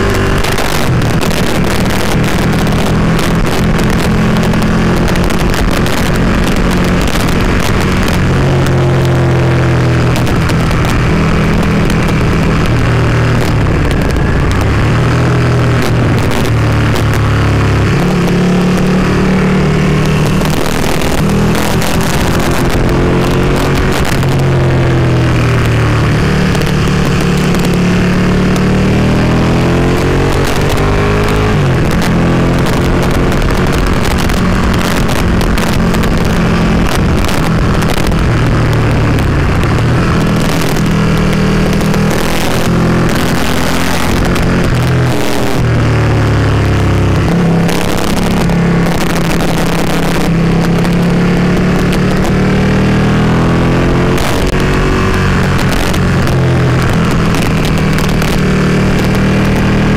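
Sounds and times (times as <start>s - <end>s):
motorcycle engine pulling uphill: 0.0s - 59.9s
wind buffeting camera: 0.0s - 59.9s.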